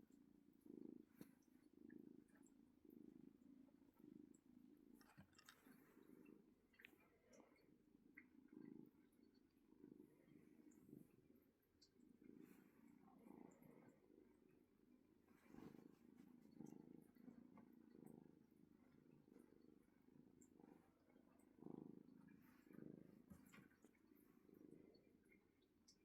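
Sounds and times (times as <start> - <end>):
kitten purring: 0.0 - 26.0.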